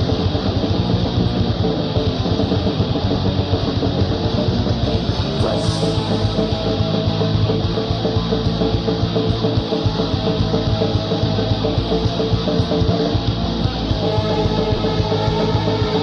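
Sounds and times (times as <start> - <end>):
distorted electric guitars: 0.0 - 16.0
fast dense drumming: 0.0 - 16.0.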